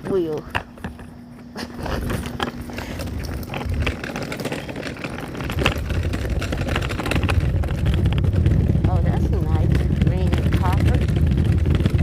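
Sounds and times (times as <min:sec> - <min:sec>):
clicks and rattles: 0:00.0 - 0:12.0
small wheels rolling on pavement: 0:00.0 - 0:12.0.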